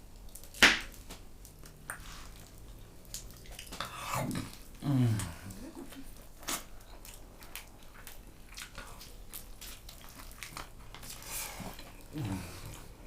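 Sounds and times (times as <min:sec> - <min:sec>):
person crunching and chewing: 0:01.6 - 0:13.0.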